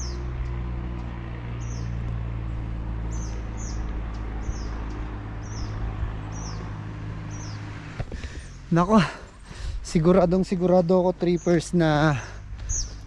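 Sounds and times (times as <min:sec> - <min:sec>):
bird chirping: 0:00.0 - 0:00.6, 0:01.6 - 0:13.0.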